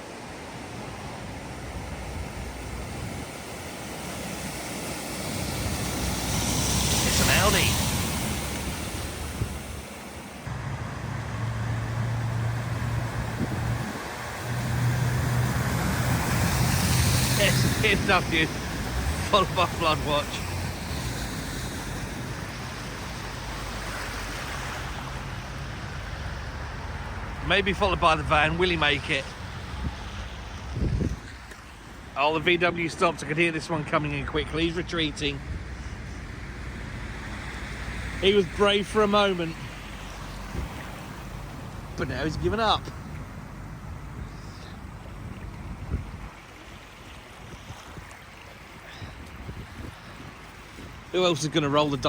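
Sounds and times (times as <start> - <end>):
rushing water: 0.0 - 52.0
vehicle approaching: 0.9 - 47.2.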